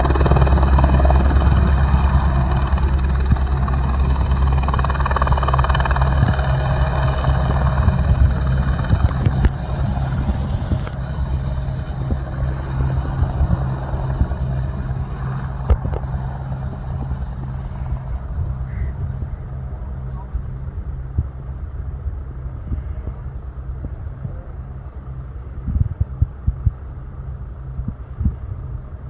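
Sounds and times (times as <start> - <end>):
helicopter rotor beat: 0.0 - 29.0
helicopter turbine whine: 0.0 - 29.0.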